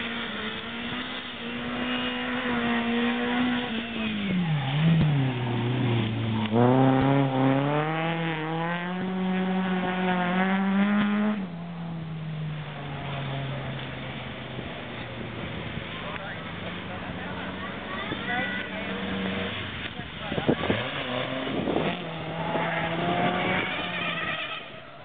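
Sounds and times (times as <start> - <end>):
race car engine revving: 0.0 - 24.9.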